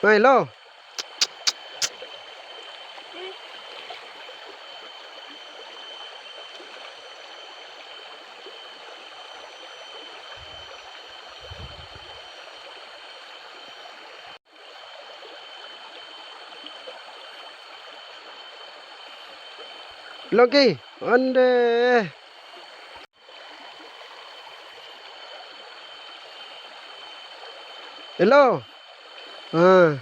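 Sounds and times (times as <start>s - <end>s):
flowing water rushing: 0.0s - 30.0s.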